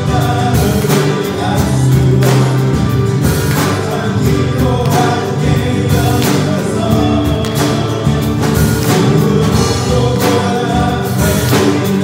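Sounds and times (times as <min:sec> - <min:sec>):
acoustic guitar: 0:00.0 - 0:12.0
bass: 0:00.0 - 0:12.0
drum kit: 0:00.0 - 0:12.0
keyboard: 0:00.0 - 0:12.0
voices singing a hymn: 0:00.0 - 0:12.0.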